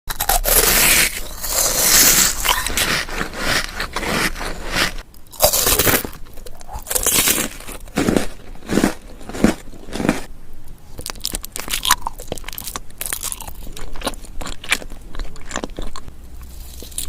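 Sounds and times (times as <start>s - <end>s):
person chewing crunchy food: 0.1s - 10.3s, 10.9s - 17.0s.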